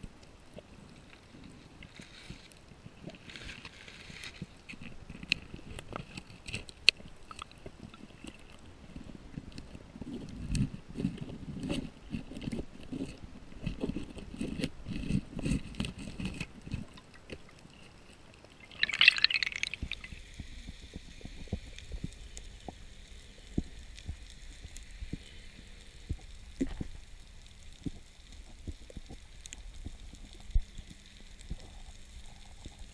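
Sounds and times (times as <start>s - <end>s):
underwater clicks and crackles: 0.0s - 32.9s.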